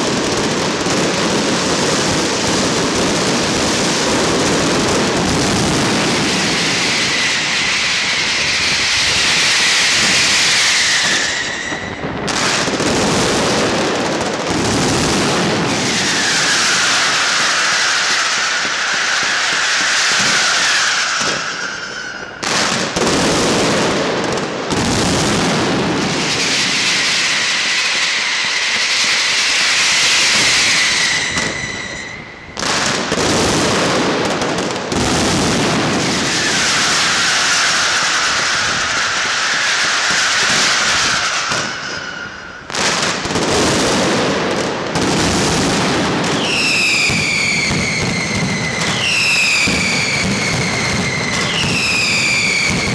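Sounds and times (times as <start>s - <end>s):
firecrackers and bangers exploding: 0.0s - 52.9s
whistling fireworks: 0.0s - 52.9s.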